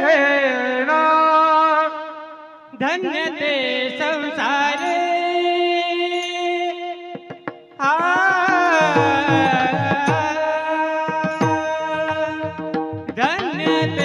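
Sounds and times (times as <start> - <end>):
man singing high notes: 0.0 - 14.0.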